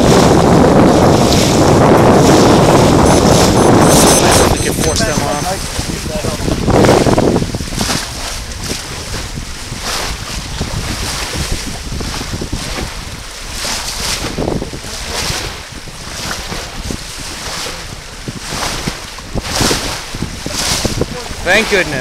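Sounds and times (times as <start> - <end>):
water rushing along hull: 0.0 - 22.0
waves splashing against bow: 0.0 - 22.0
wind buffeting microphone: 0.0 - 22.0.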